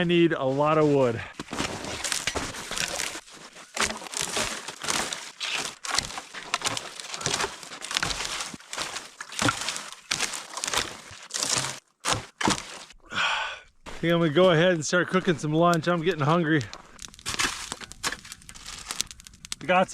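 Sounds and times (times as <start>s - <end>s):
brush and branches crunching: 0.0s - 13.0s, 13.8s - 19.9s.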